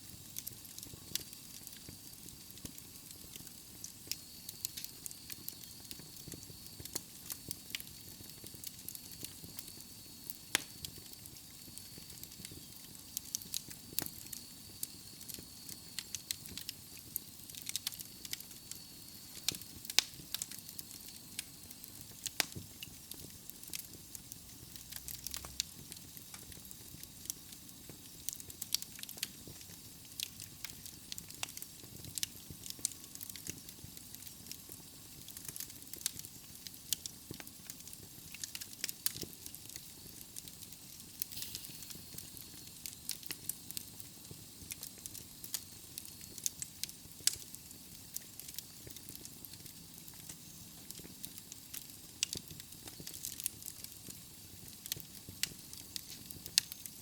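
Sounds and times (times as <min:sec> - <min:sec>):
fire hissing: 0:00.0 - 0:57.0
logs crackling in fireplace: 0:00.0 - 0:57.0.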